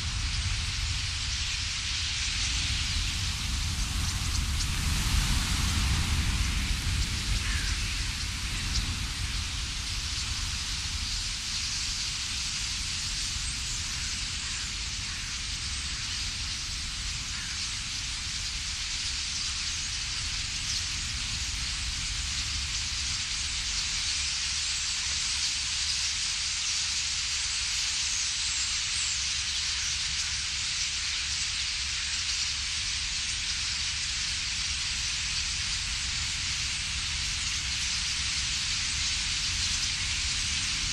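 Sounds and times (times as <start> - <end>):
flock of starlings rushing hiss: 0.0 - 40.9.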